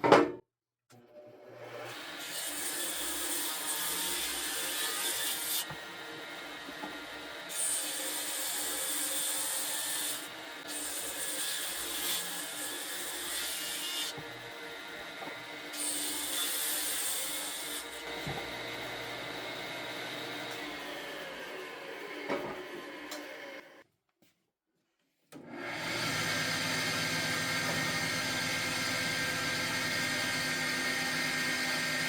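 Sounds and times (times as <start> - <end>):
power saw cutting wood: 1.1 - 23.8, 25.4 - 32.0
saw running: 1.6 - 23.8, 25.4 - 32.0.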